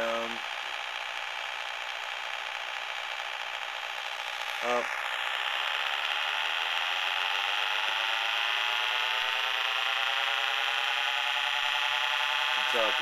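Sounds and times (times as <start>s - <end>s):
buzzy electronic toy engine drone: 0.0s - 13.0s.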